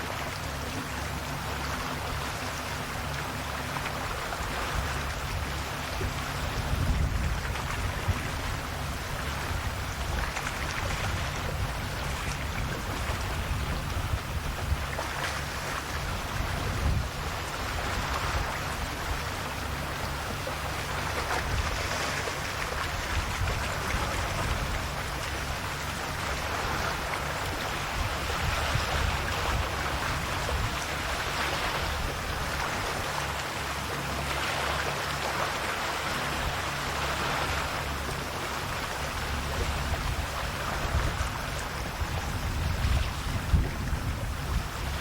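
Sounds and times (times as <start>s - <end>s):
sea waves washing in: 0.0s - 45.0s.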